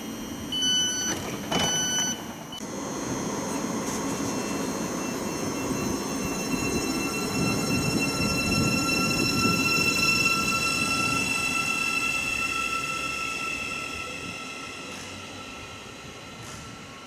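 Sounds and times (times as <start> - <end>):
high-pitched train whine: 0.0 - 17.0
train wheels rumbling on rails: 1.1 - 17.0.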